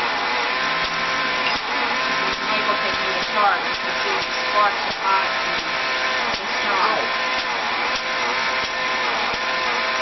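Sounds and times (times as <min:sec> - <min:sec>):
electric motor whine: 0:00.0 - 0:10.0.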